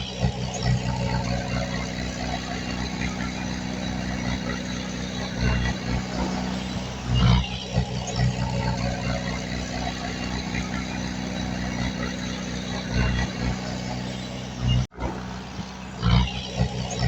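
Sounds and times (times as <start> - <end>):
heavy machinery diesel engine running: 0.0 - 17.0.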